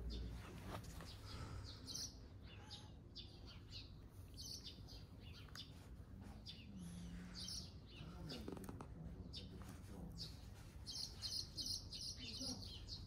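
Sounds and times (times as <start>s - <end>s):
faint outdoor background: 0.0s - 13.0s
small birds chirping: 0.0s - 13.0s.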